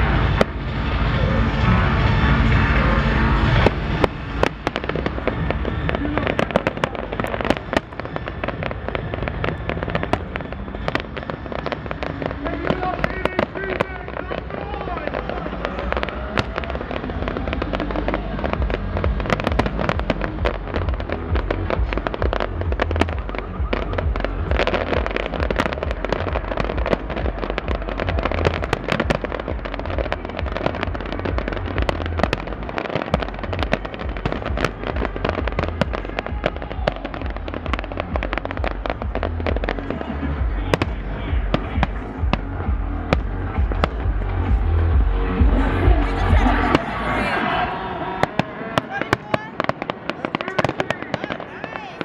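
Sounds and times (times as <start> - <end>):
electronic dance music: 0.0 - 49.5
fireworks bursting and crackling: 0.0 - 52.0.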